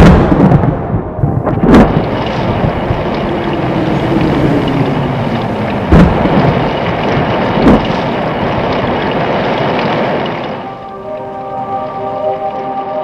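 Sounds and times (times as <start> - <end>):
thunder cracks: 0.0 - 11.4
rain: 0.0 - 13.0
wind: 0.0 - 13.0.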